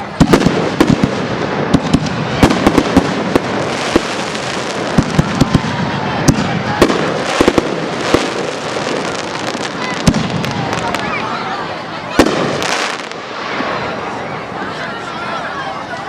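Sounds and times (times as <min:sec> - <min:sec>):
firework crackle: 0:00.0 - 0:14.6.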